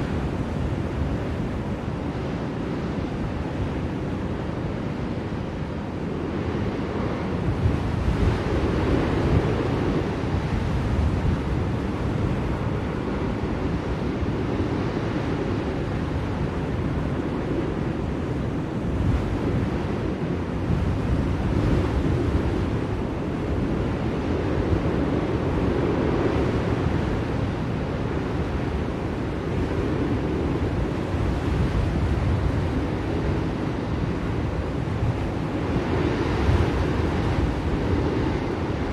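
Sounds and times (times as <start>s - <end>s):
blizzard wind blowing: 0.0s - 38.9s.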